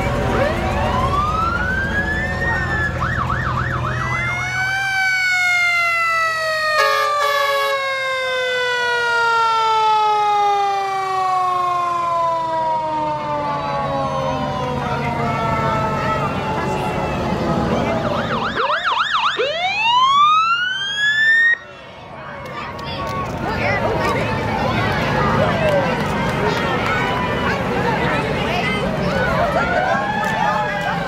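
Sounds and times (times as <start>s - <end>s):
fire engine siren wailing: 0.0s - 31.0s
truck engine rumble: 0.0s - 31.0s.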